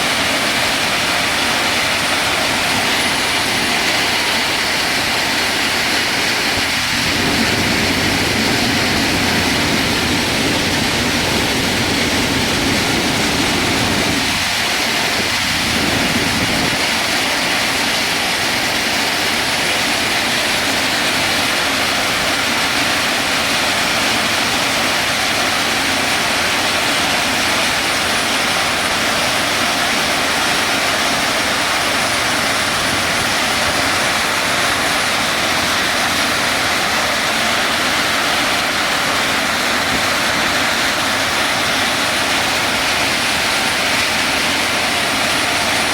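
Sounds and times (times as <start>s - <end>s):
machine noise: 0.0s - 45.9s
rushing water churning sand: 0.0s - 45.9s.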